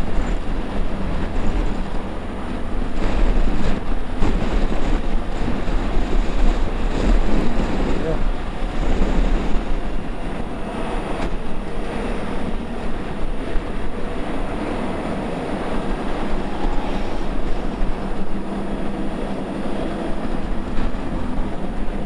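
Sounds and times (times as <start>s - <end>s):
road and tyre noise: 0.0s - 22.0s
wind buffeting microphone: 0.0s - 22.0s.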